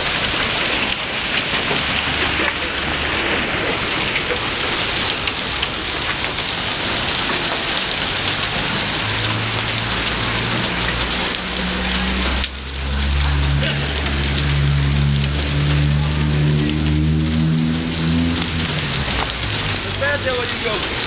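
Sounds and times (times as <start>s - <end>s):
hail and rain on cars and pavement: 0.0s - 21.0s.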